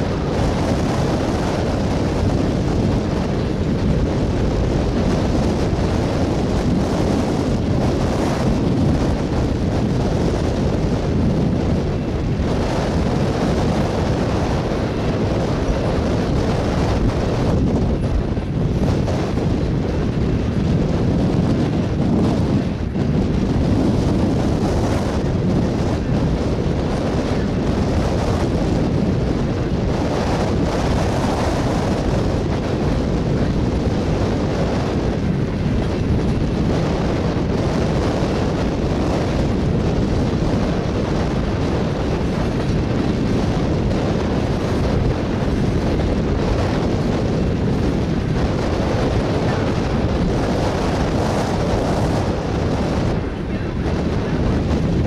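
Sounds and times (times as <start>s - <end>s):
freight train wheels rumbling: 0.0s - 55.0s
wind buffeting microphone: 0.0s - 55.0s.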